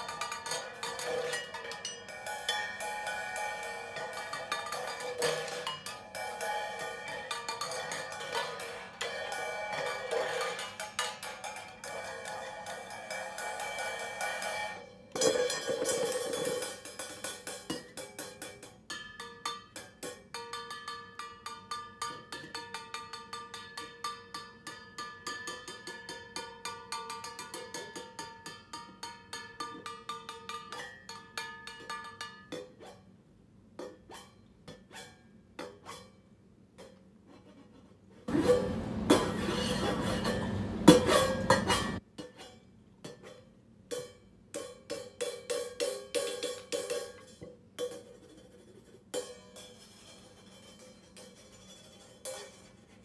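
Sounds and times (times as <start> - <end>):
drumstick tapping cymbal: 0.0 - 33.1, 38.4 - 48.4, 49.1 - 52.9.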